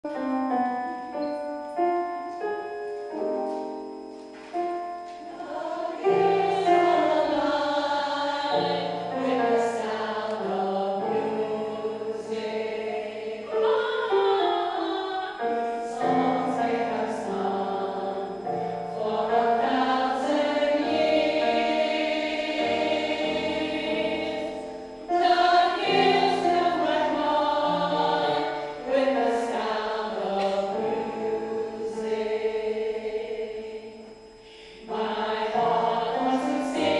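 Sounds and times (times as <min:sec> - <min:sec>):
choir singing: 0:05.1 - 0:36.9.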